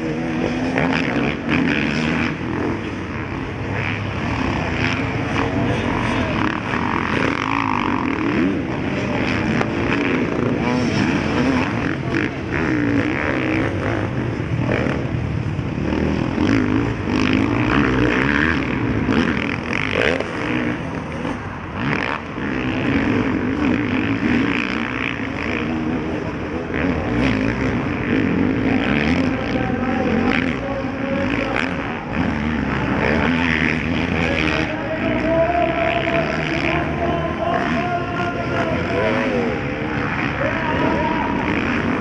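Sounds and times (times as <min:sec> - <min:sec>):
motocross bike engines revving: 0:00.0 - 0:42.0.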